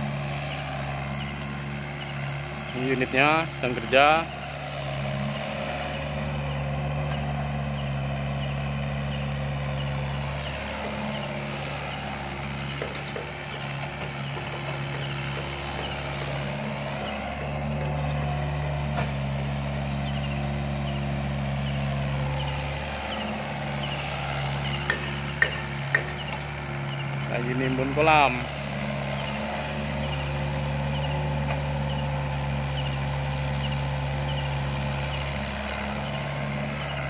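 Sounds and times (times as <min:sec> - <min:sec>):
excavator diesel engine under load: 0:00.0 - 0:37.0.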